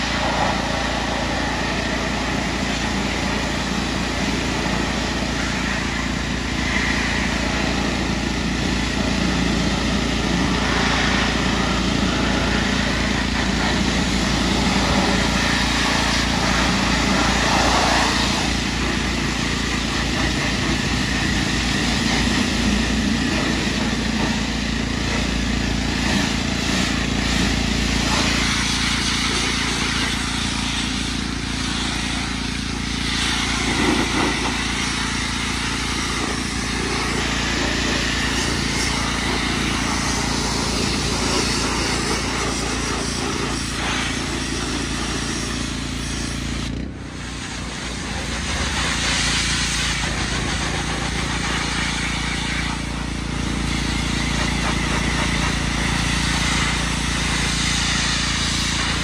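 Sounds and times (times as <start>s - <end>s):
high-pressure water jet hissing: 0.0s - 59.0s
pressure washer running: 0.0s - 59.0s.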